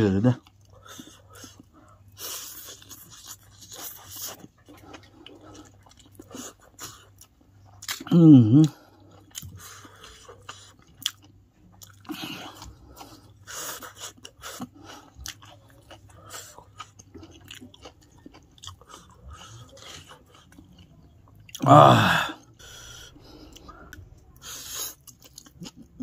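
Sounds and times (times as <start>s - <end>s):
person chewing noodles: 0.4s - 26.0s.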